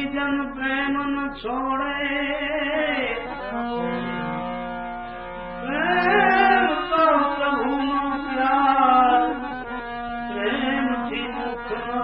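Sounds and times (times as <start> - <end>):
man singing devotional song: 0.0 - 4.6, 5.6 - 12.0
harmonium drone: 0.0 - 12.0.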